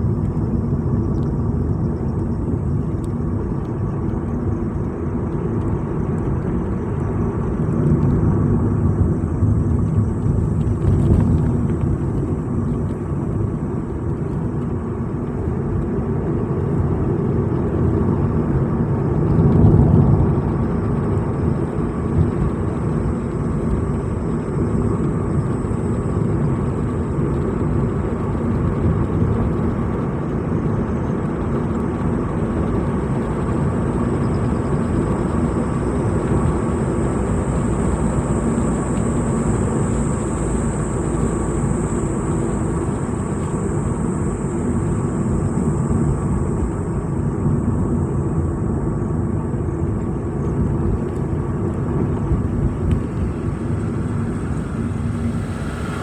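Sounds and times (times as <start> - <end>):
road rumble: 0.0 - 56.0
vehicle engine: 0.0 - 56.0.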